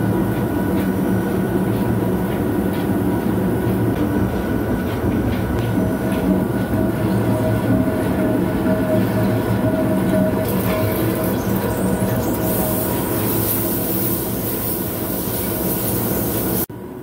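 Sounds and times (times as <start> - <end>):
lathe machine hum: 0.0 - 16.7
steady machine tones: 0.0 - 16.7.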